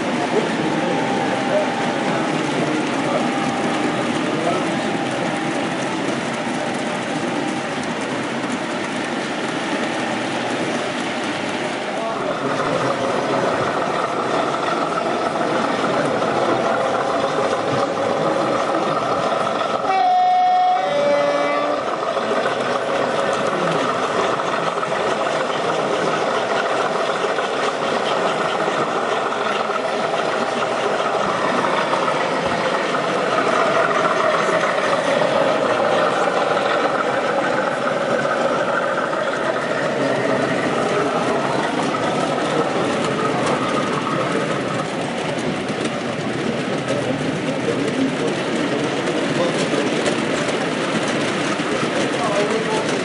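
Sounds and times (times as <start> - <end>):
model diesel engine sound: 0.0 - 53.0
wheels rolling on track: 0.0 - 53.0.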